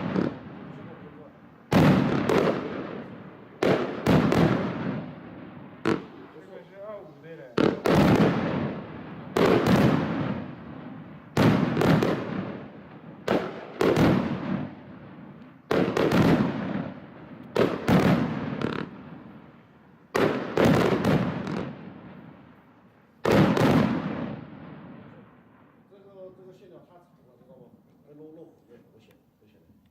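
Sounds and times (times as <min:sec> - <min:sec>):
firework bangs: 0:00.0 - 0:26.3.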